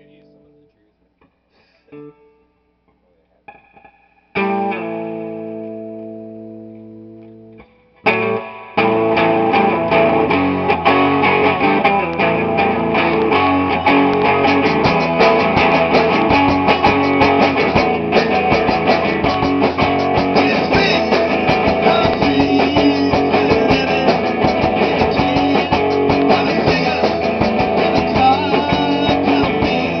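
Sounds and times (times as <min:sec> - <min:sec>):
electric guitar chord ringing: 0:03.5 - 0:30.0
rock band playing: 0:04.4 - 0:07.1, 0:08.0 - 0:30.0.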